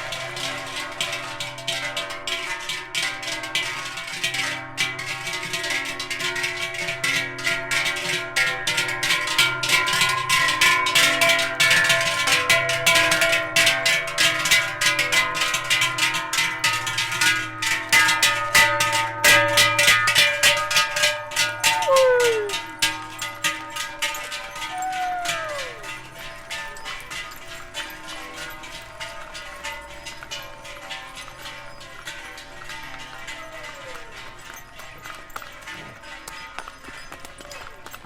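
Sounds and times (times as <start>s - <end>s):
cowbells clanging: 0.0s - 38.0s.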